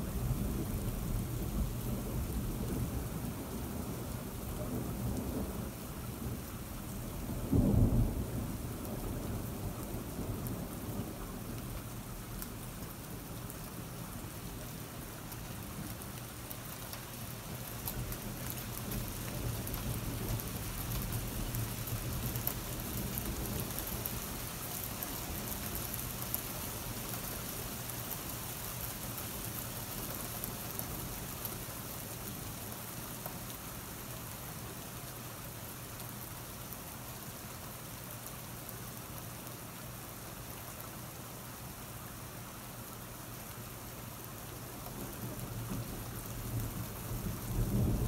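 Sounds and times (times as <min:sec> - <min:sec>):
steady rain falling: 0:00.0 - 0:48.0.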